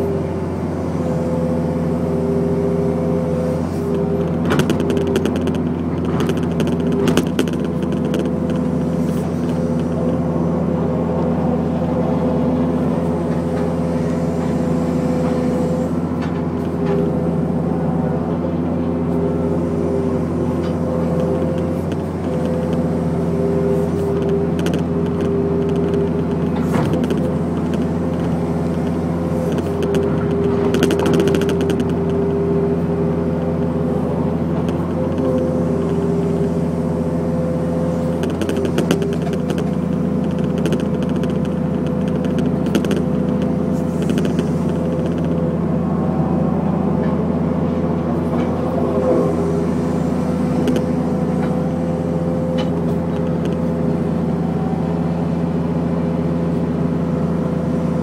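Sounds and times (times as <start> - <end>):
excavator diesel engine and hydraulics: 0.0 - 58.0.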